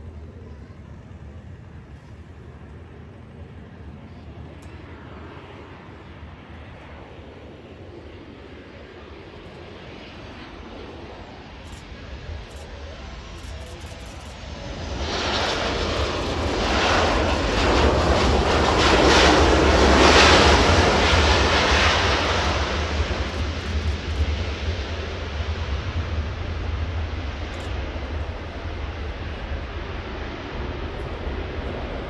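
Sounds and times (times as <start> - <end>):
jet engines roaring: 0.0 - 32.0
steady low rumble: 0.0 - 32.0.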